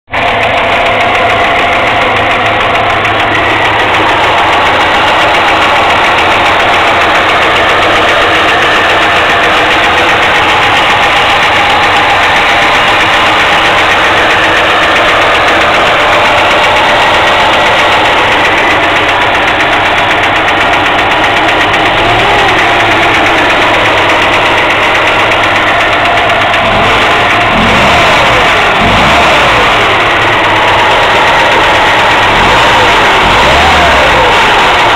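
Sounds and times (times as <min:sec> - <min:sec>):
car engine idling: 0:00.0 - 0:34.9
rapid metallic engine knock: 0:00.0 - 0:34.9.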